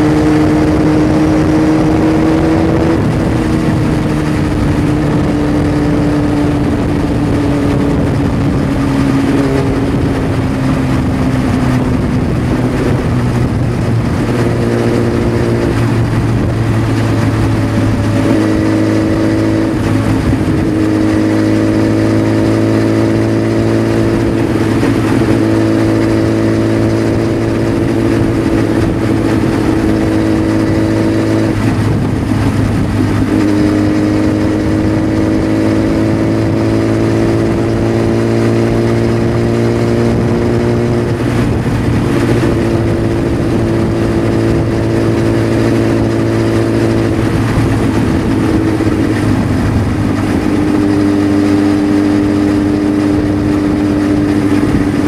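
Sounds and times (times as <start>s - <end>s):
vehicle engine at highway speed: 0.0s - 55.0s
wind and road noise: 0.0s - 55.0s.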